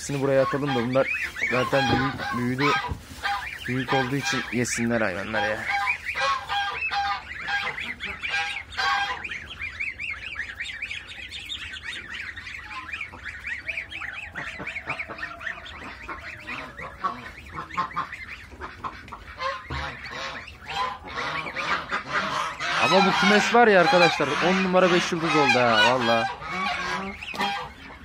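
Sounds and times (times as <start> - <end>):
ducklings and goslings peeping: 0.0 - 28.0
geese honking: 0.0 - 28.0.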